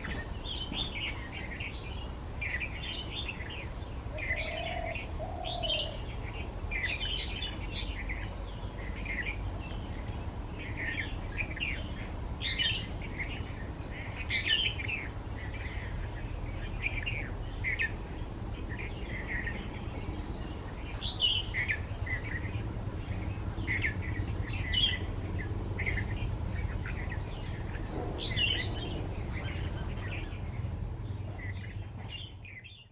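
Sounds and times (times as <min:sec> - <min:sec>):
bulbul singing: 0:00.0 - 0:32.9.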